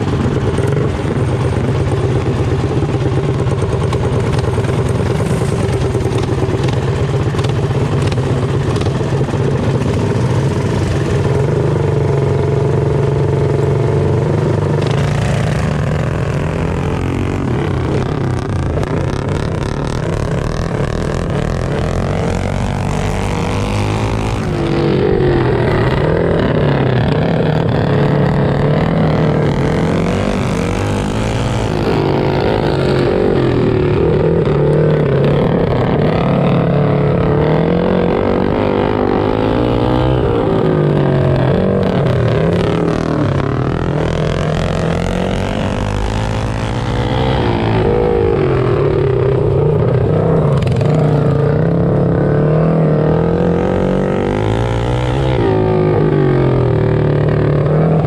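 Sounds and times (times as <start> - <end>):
mini bike engines racing: 0.0 - 58.0.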